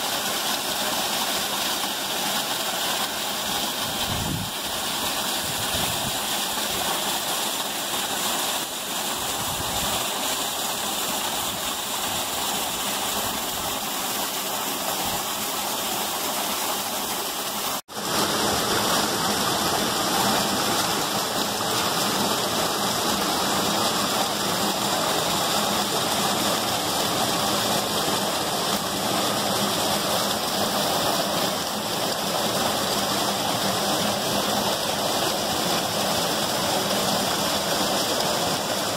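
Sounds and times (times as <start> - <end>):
creek rushing over boulders: 0.0 - 38.9.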